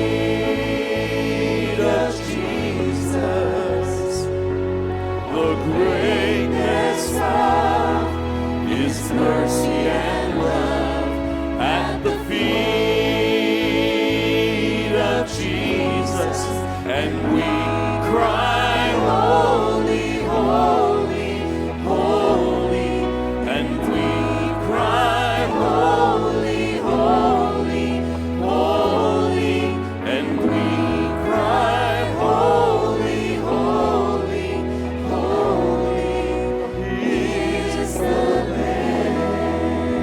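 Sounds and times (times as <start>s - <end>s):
choir singing gospel music: 0.0s - 40.0s.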